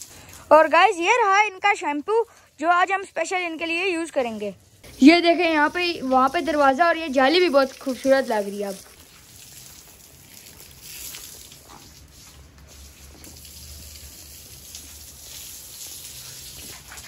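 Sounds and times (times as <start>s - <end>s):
hose water spraying and splashing: 0.0s - 17.0s.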